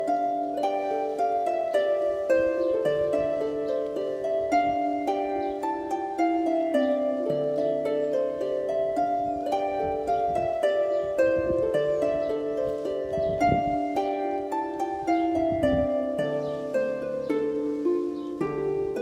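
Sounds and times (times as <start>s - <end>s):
plucked-string melody: 0.0s - 19.0s.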